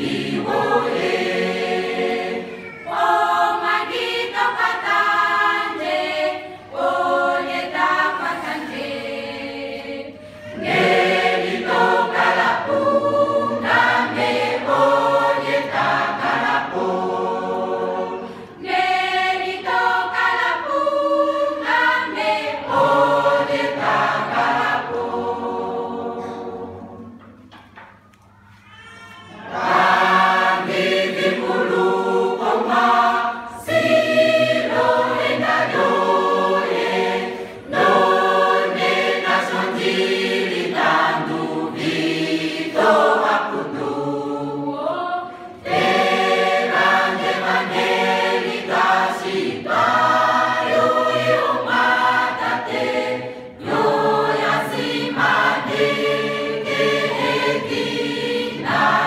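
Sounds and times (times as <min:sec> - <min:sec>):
choir singing a hymn: 0:00.0 - 0:27.4, 0:29.3 - 0:59.0.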